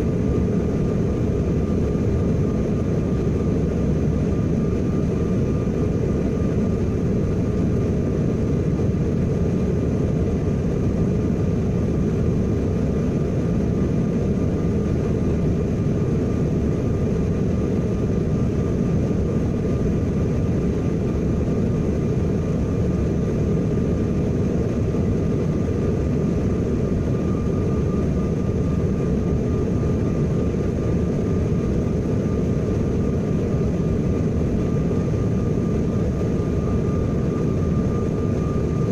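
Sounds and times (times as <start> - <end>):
faint steady whine: 0.0 - 38.9
jet cabin airflow and engine rush: 0.0 - 38.9.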